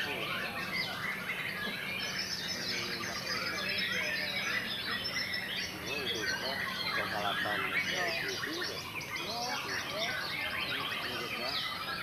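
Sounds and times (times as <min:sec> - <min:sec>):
birds whistling and trilling: 0:00.0 - 0:12.0.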